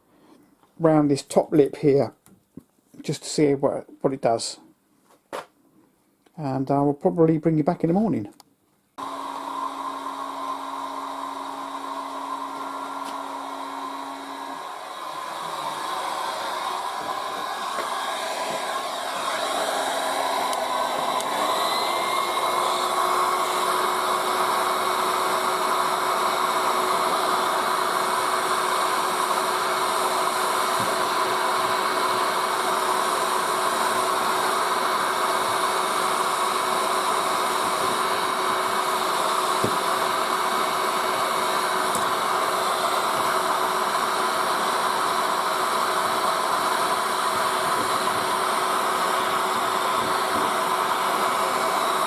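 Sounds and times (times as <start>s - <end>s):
heat gun fan whining: 9.0s - 52.0s.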